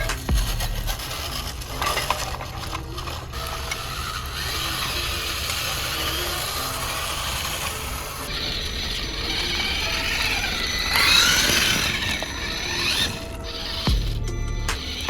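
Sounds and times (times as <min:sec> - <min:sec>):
small geared motor whirring: 0:00.0 - 0:15.0.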